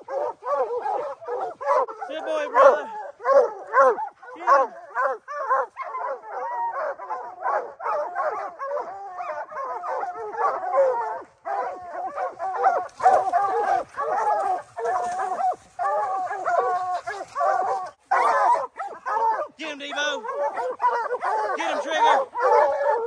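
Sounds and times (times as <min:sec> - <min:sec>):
hounds baying and barking: 0:00.0 - 0:23.0.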